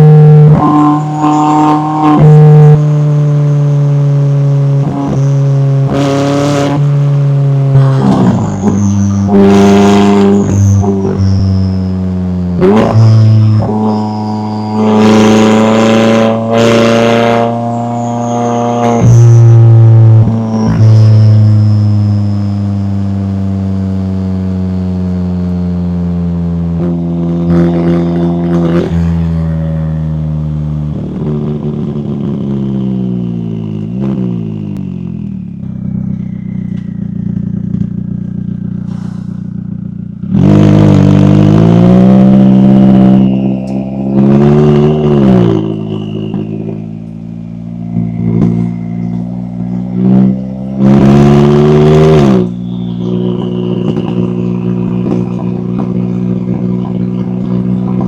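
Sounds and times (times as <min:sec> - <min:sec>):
car exhaust accelerating: 0:00.0 - 0:58.0.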